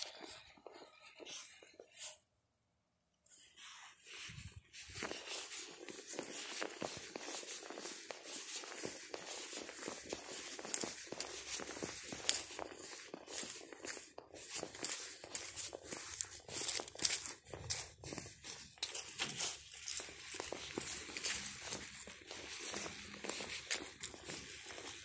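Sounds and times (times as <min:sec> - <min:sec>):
footsteps on dry grass and leaves: 0:00.0 - 0:02.2, 0:03.4 - 0:25.0.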